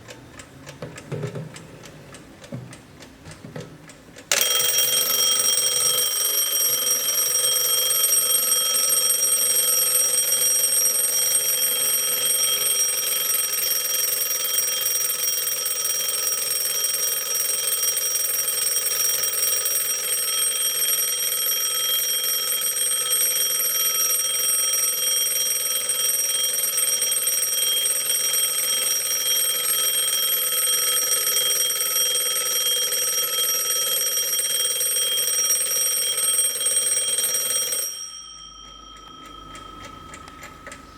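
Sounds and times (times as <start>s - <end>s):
alarm clock bell ringing: 4.3s - 40.7s.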